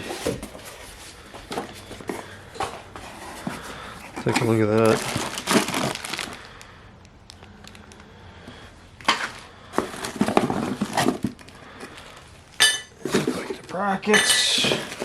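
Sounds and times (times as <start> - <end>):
packaging rustling and crinkling: 0.0 - 8.2, 9.0 - 13.8, 14.6 - 15.0.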